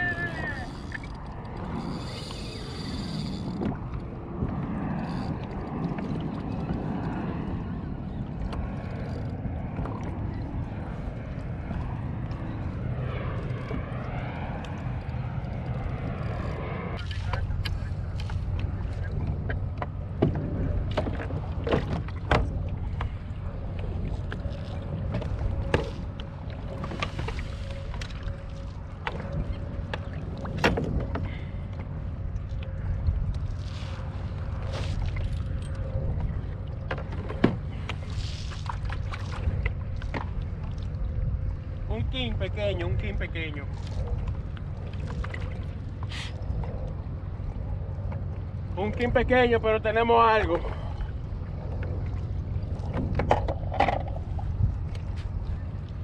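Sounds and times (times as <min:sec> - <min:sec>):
outboard motor droning: 0:00.0 - 0:56.0
water noise: 0:00.0 - 0:56.0
wind: 0:00.0 - 0:56.0.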